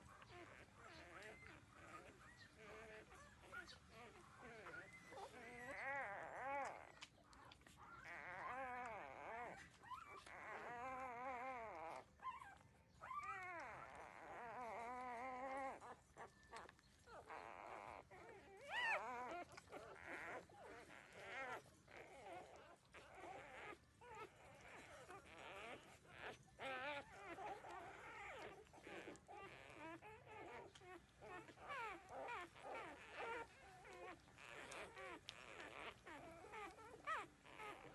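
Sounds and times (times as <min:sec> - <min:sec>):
puppies whining: 0:00.0 - 0:37.9.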